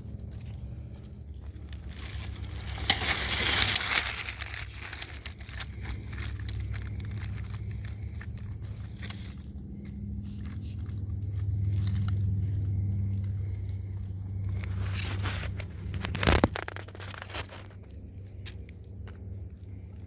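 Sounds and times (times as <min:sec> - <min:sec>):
rustling and crunching handling: 0:00.0 - 0:20.0
steady low hum: 0:00.0 - 0:20.0.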